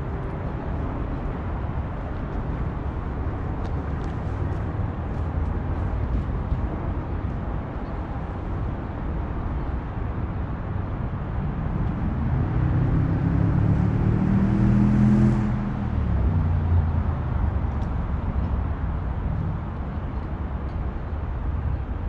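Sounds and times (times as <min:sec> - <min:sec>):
steady low rumble: 0:00.0 - 0:15.0, 0:15.6 - 0:22.0.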